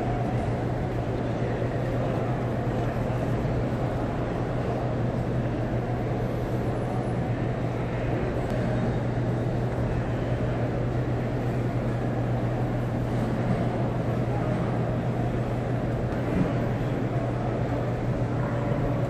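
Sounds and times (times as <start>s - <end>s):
crowd ambience in a hall: 0.0s - 19.0s.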